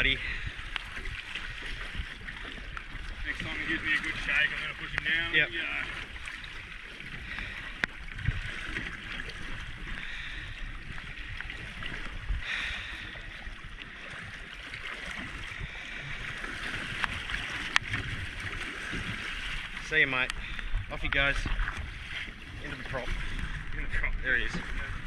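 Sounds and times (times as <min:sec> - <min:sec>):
water splashing against boat hull: 0:00.0 - 0:25.0.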